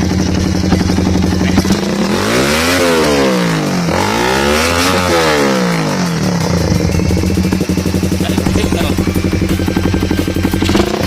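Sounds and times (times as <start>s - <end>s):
motorcycle engine revving from idle: 0.0s - 11.0s.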